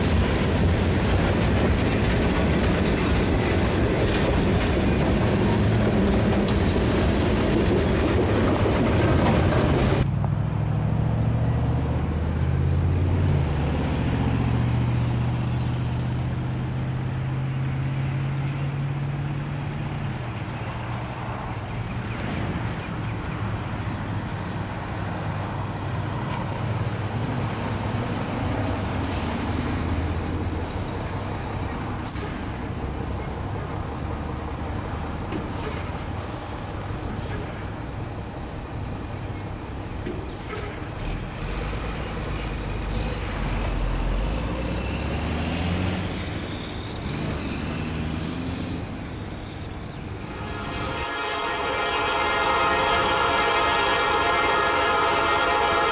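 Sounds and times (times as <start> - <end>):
diesel locomotive engine rumble: 0.0 - 55.9.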